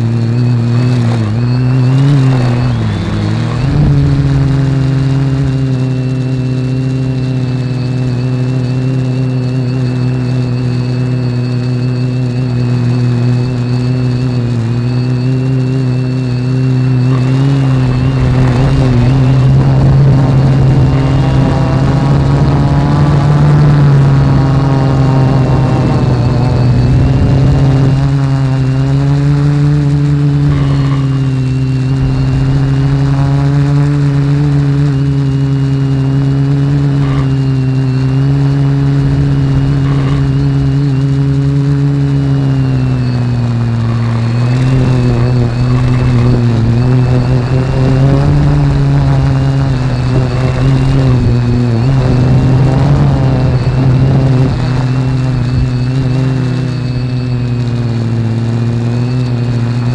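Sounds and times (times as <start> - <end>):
rushing noise: 0.0 - 8.7, 9.4 - 58.0
drone motors and propellers humming: 0.0 - 59.9.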